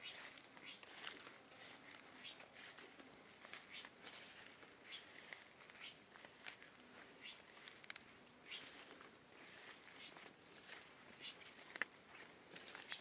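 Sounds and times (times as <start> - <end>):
leaves and twigs rustling: 0.0 - 13.0.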